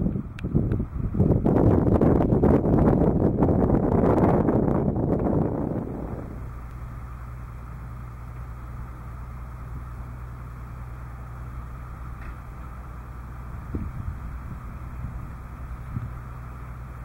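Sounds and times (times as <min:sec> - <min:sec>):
diesel locomotive engine humming: 0:00.0 - 0:17.0.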